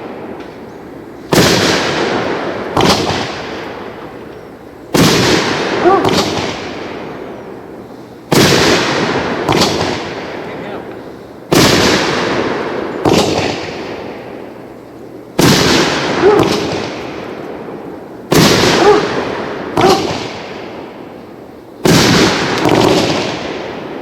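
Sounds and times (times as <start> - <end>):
firework bangs with crackling tail: 1.3 - 4.1, 4.9 - 7.7, 8.3 - 14.5, 15.4 - 21.2, 21.8 - 24.0.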